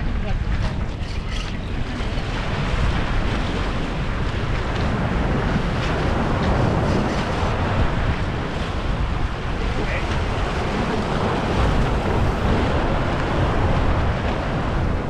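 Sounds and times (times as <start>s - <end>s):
surf: 0.0s - 15.0s
wind rumbling on microphone: 0.0s - 15.0s.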